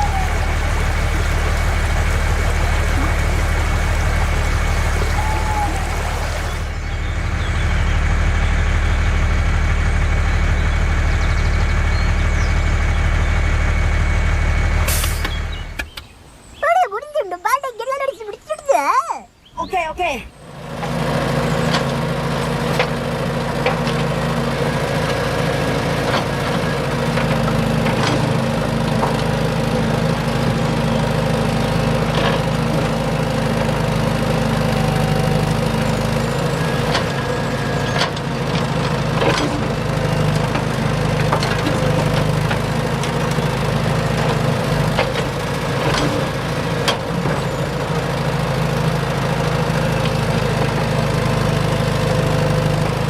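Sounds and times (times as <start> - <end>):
small engine running: 0.0 - 15.0, 20.5 - 53.0.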